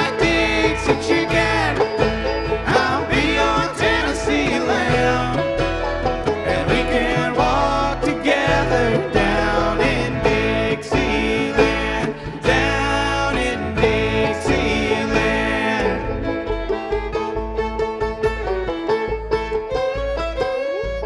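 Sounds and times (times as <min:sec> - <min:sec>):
acoustic guitar: 0:00.0 - 0:21.0
banjo: 0:00.0 - 0:21.0
fiddle: 0:00.0 - 0:21.0
mandolin: 0:00.0 - 0:21.0
upright bass: 0:00.0 - 0:21.0.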